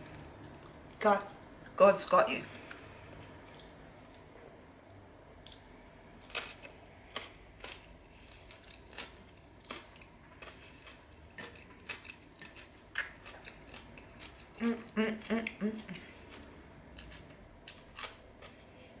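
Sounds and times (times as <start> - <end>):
chewing: 2.6 - 18.8.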